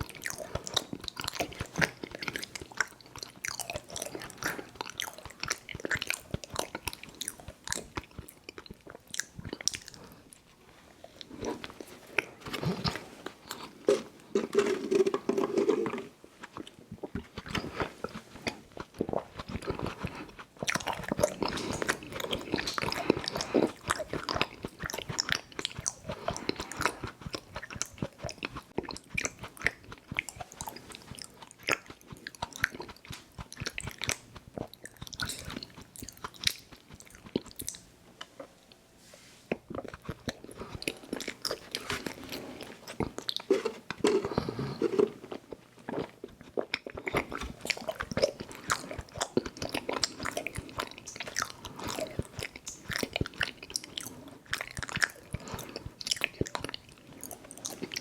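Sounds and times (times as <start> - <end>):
wet chewing and mouth smacking: 0.0 - 14.5, 16.4 - 38.5, 39.5 - 58.0.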